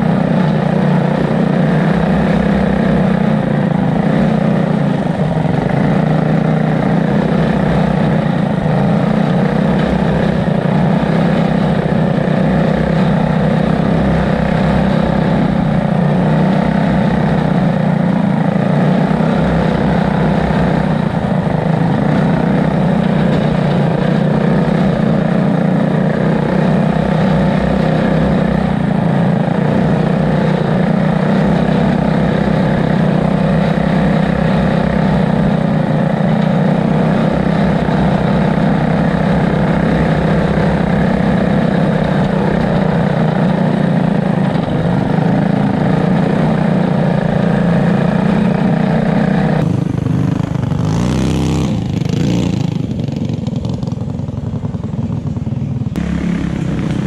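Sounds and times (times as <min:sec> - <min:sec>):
go-kart engines running: 0:00.0 - 0:57.0.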